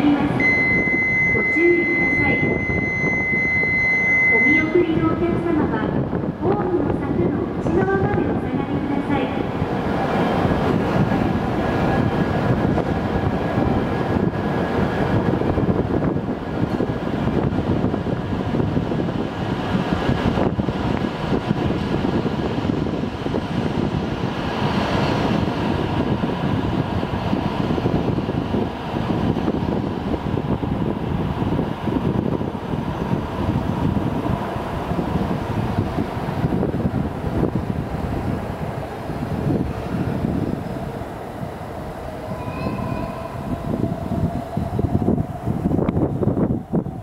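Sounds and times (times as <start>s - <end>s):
train accelerating past: 0.0s - 47.0s.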